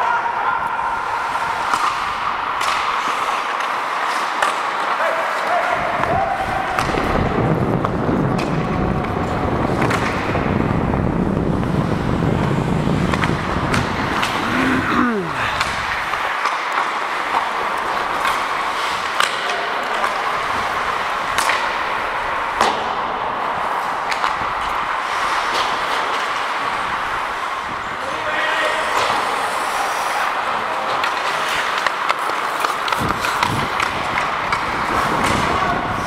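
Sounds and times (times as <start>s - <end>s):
hockey sticks and puck clacking: 0.0s - 36.0s
skate blades scraping ice: 0.9s - 7.2s, 7.8s - 36.0s.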